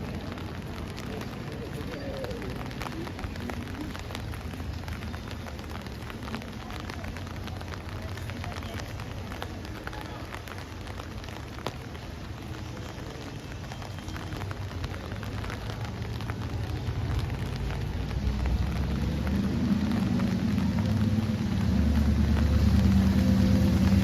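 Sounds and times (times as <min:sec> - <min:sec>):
faint voices: 0:00.0 - 0:24.0
steady rain: 0:00.0 - 0:24.0.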